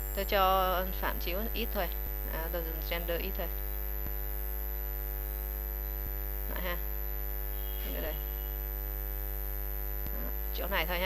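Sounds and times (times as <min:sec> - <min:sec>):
electrical mains hum: 0:00.0 - 0:11.0
faint high whine: 0:00.0 - 0:11.0.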